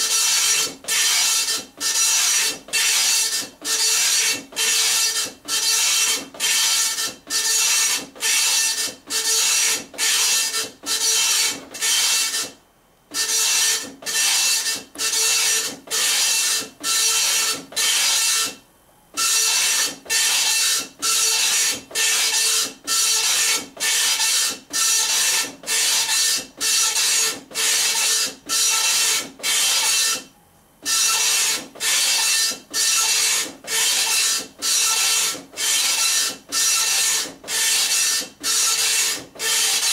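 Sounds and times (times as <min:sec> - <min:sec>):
dot-matrix printer printing: 0:00.0 - 0:18.6, 0:19.2 - 0:39.9.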